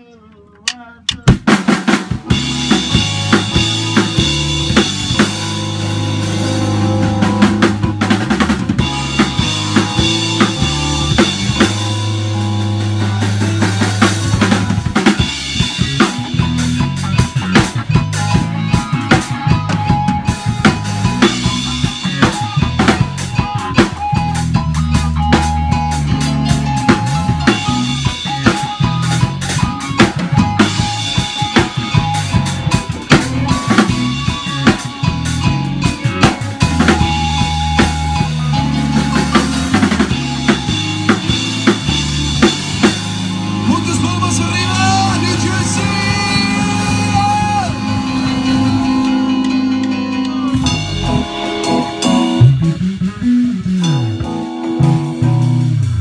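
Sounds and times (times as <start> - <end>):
bass line: 0.0 - 56.0
electric keyboard: 0.0 - 56.0
guitars: 0.0 - 56.0
drum kit with cymbals: 0.6 - 56.0.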